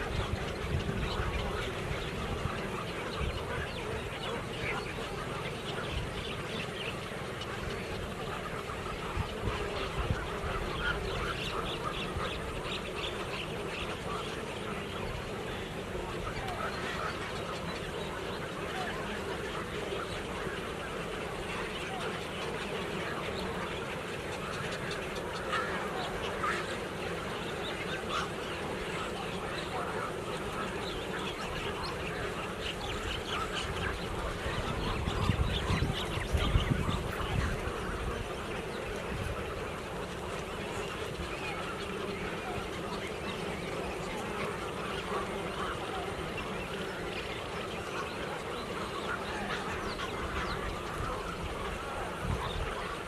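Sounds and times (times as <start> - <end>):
waterbirds calling: 0.0 - 53.0.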